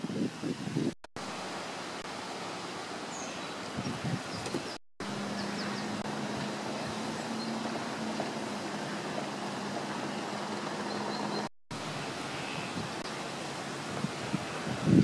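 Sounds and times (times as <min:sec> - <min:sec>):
steady rushing street noise: 0:00.0 - 0:15.0.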